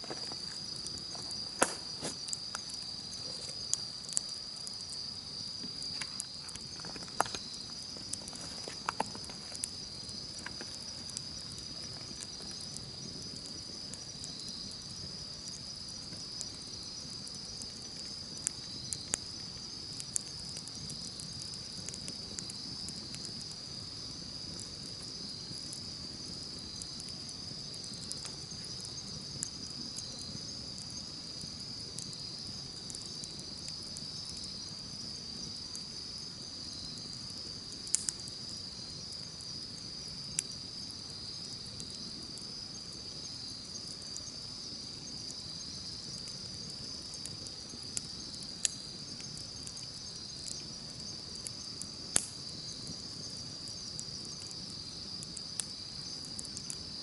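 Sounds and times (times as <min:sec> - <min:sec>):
campfire crackling and popping: 0:00.0 - 0:57.0
insects chorus: 0:00.0 - 0:57.0.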